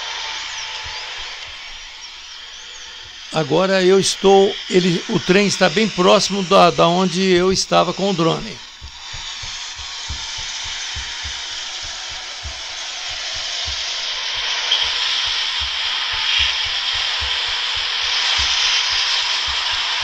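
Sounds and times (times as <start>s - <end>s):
freight train rushing: 0.0s - 20.0s
low thumps: 0.1s - 20.0s.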